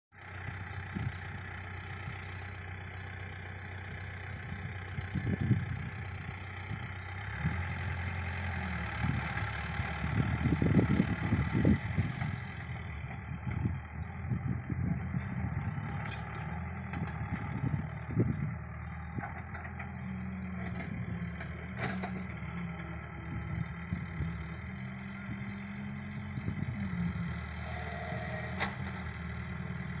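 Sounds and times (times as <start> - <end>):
excavator engine running: 0.2 - 30.0.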